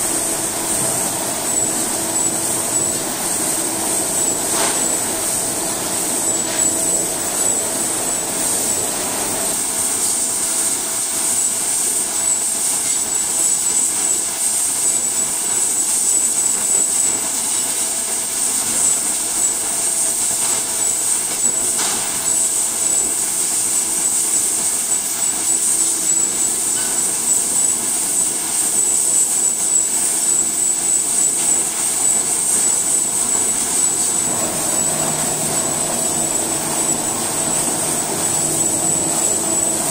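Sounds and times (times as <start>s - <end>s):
high-pitched whine: 0.0s - 39.9s
processing machinery running: 0.0s - 39.9s.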